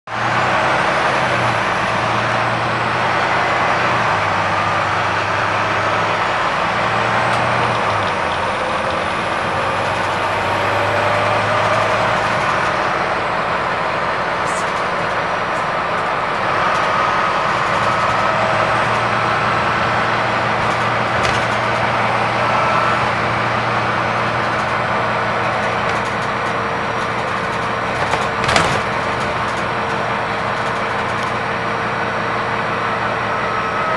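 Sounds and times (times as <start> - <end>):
bus diesel engine: 0.0 - 33.9
road and cabin noise: 0.1 - 33.9.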